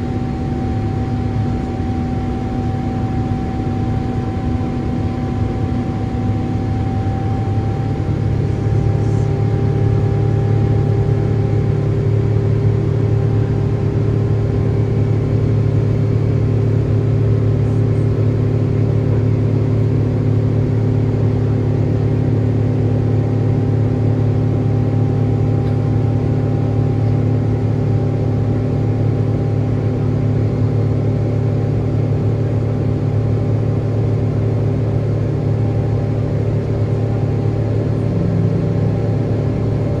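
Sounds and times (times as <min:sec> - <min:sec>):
jet engines at full power: 0:00.0 - 0:40.0.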